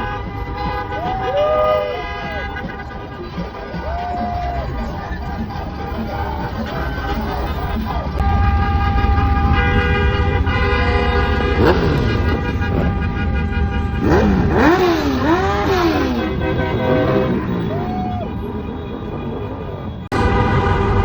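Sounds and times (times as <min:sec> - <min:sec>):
car horns honking: 0:00.0 - 0:21.0
traffic rumble: 0:00.0 - 0:21.0.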